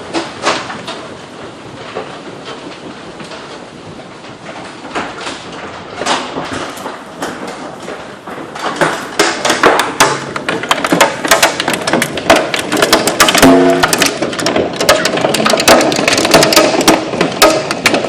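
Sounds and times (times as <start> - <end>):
hailstones hitting hard surfaces: 1.6 - 18.0.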